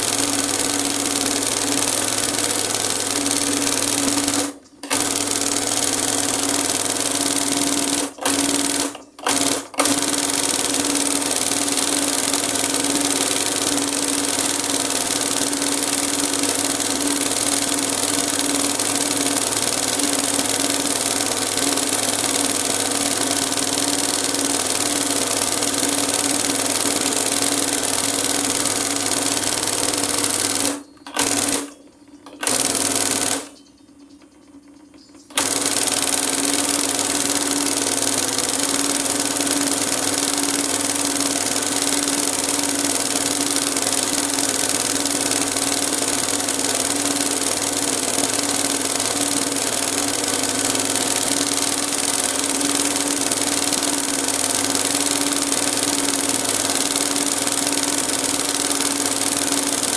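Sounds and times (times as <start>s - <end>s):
embroidery machine stitching rattle: 0.0s - 31.7s, 32.3s - 33.6s, 35.3s - 59.9s.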